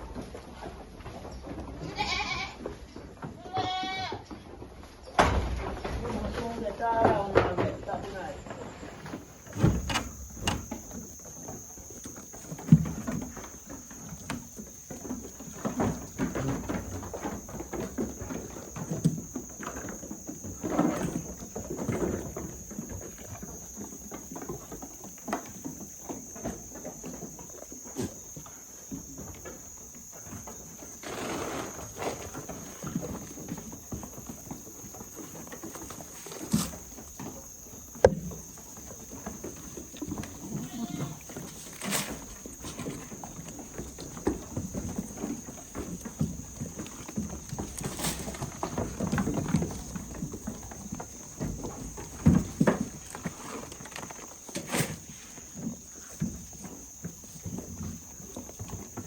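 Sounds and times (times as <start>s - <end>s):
steady high-pitched hiss: 0.0s - 59.0s
goat hoof steps and knocks: 9.0s - 59.0s.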